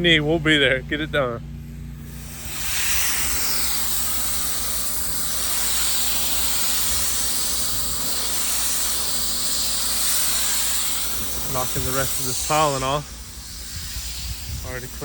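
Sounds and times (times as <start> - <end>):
low steady hum: 0.0 - 15.0
pressure washer spraying: 2.1 - 15.0.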